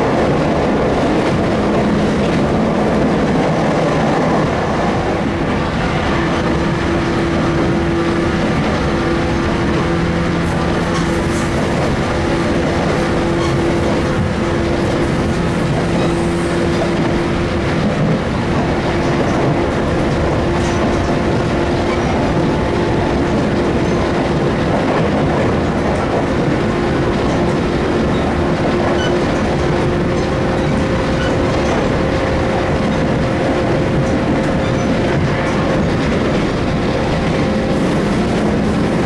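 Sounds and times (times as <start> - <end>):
electric train running noise: 0.0 - 39.0.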